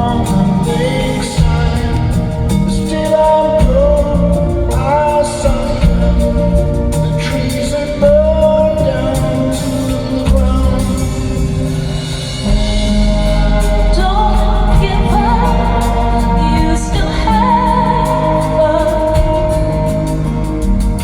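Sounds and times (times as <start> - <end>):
live band playing: 0.0 - 21.0
singer holding long notes: 0.0 - 21.0.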